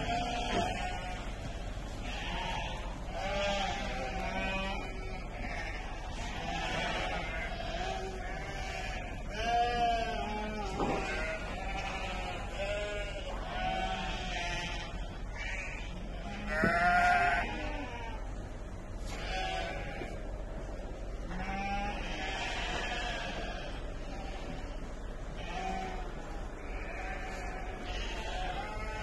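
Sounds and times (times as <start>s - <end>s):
sheep bleating: 0.0s - 29.0s.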